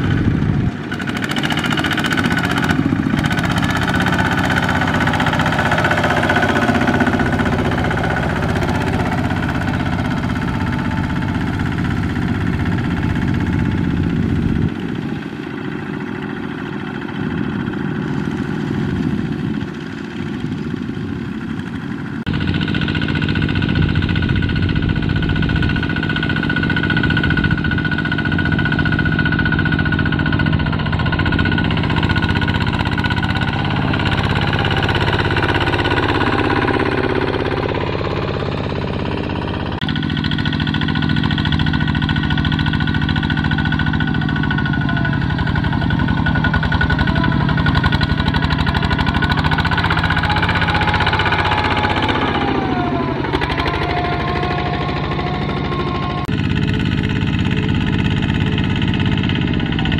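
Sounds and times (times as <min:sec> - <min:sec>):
diesel engine knocking: 0:00.0 - 0:59.9.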